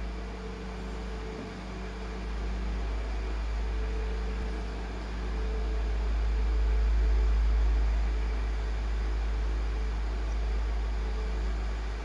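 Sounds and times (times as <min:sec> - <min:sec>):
faint hum and hiss: 0:00.0 - 0:12.0
steady low rumble: 0:00.0 - 0:12.0.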